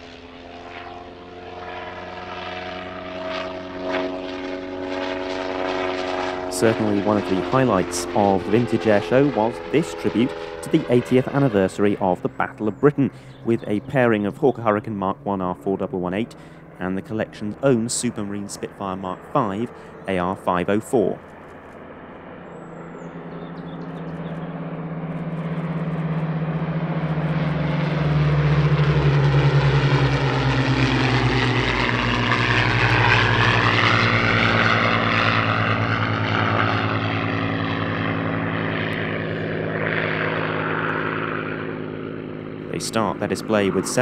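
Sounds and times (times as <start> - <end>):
propeller planes droning past: 0.0 - 44.0.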